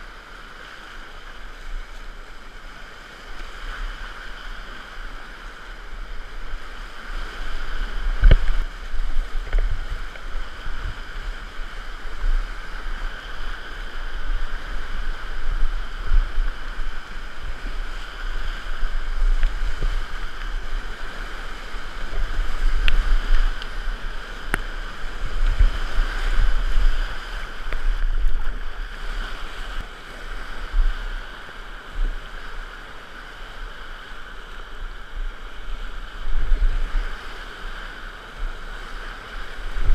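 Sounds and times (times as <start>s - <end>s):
paddle strokes and splashes: 0.0s - 39.9s
whitewater rapids rushing: 0.0s - 39.9s.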